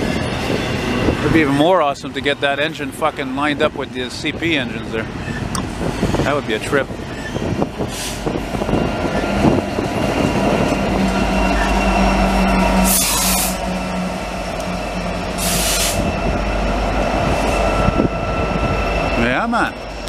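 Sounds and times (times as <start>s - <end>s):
diesel locomotive engine drone: 0.0s - 20.0s
train wheels rumbling on rails: 0.0s - 20.0s.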